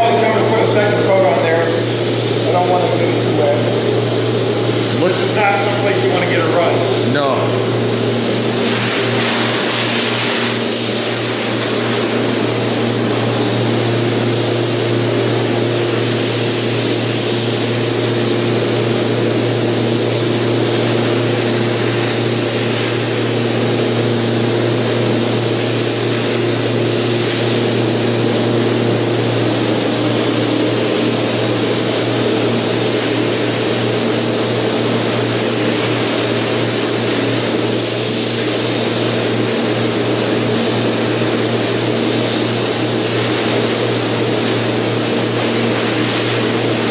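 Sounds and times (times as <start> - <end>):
paint spray gun hissing: 0.0 - 46.9.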